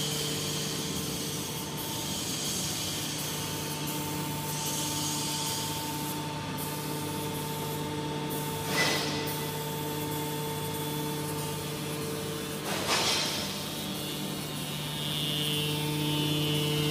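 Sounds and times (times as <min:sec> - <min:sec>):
electric motor and pump humming: 0:00.0 - 0:16.9.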